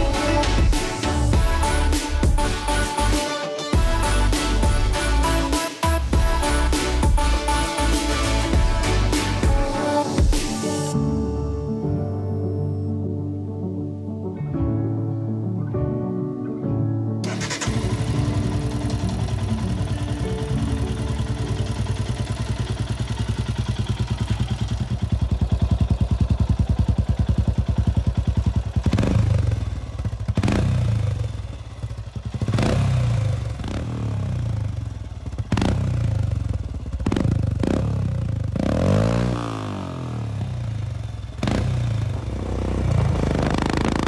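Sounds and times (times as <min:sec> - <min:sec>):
motorcycle engine idling and revving: 0:00.0 - 0:03.2, 0:03.8 - 0:11.0, 0:17.2 - 0:44.0.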